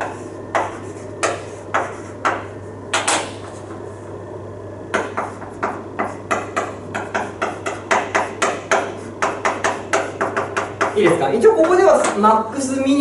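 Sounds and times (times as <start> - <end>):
chalk tapping on blackboard: 0.0 - 3.6, 4.9 - 12.3
steady low hum: 0.0 - 13.0.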